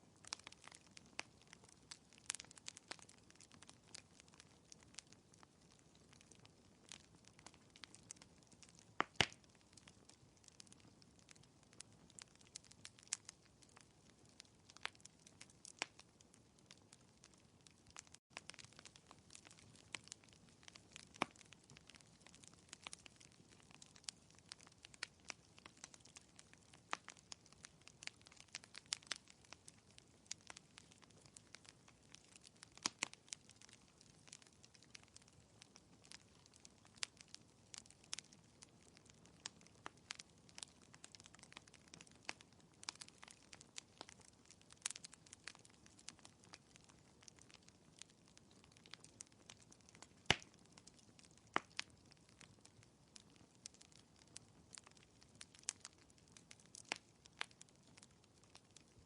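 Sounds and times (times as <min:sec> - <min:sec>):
fireplace crackling: 0:00.0 - 0:59.0.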